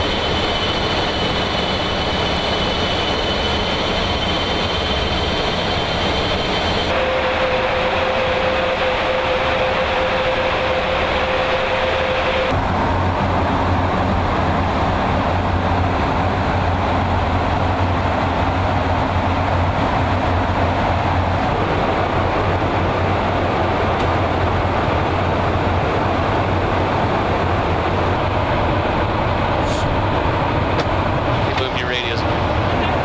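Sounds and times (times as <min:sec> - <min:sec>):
engine and airflow drone: 0:00.0 - 0:33.0.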